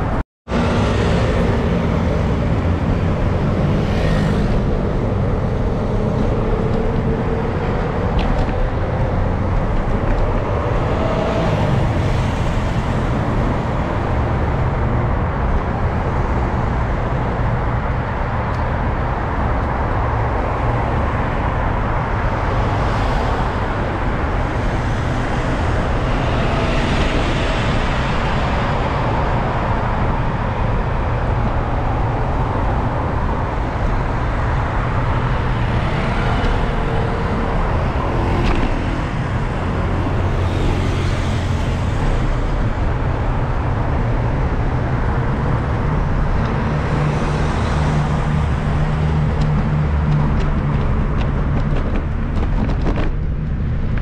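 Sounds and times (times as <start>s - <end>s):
traffic rumble: 0.0s - 54.0s
vehicles passing by: 0.0s - 54.0s.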